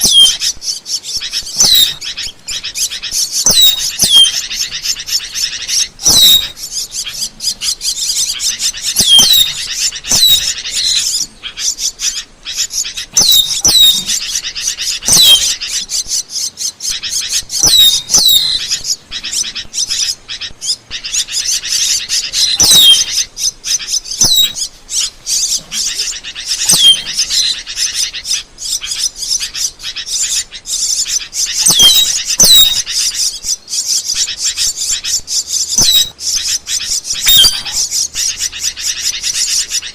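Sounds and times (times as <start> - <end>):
starling singing clicks and chirps: 0.0 - 39.9.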